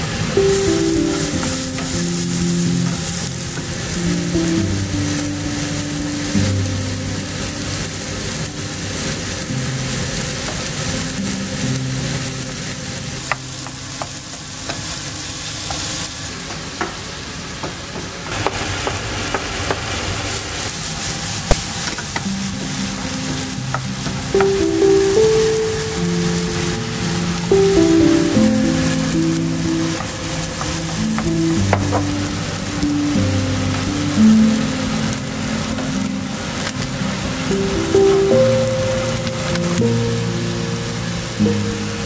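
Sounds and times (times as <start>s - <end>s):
food sizzling in a pan: 0.0s - 42.0s.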